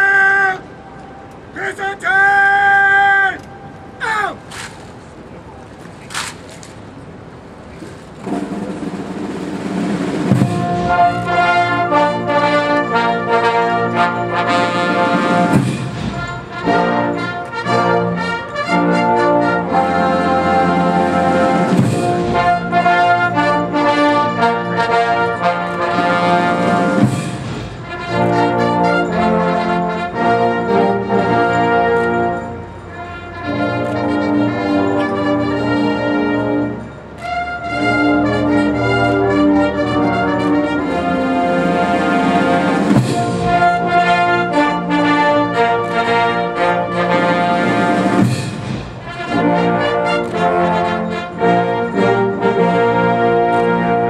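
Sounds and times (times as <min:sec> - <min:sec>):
brass band playing slow chords: 0:08.2 - 0:54.0.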